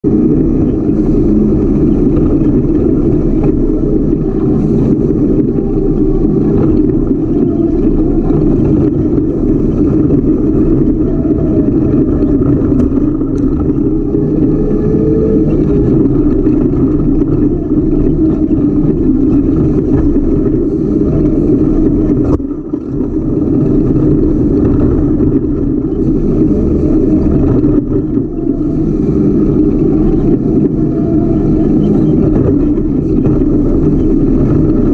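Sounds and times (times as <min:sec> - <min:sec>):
race car engine running hard: 0:00.0 - 0:34.9.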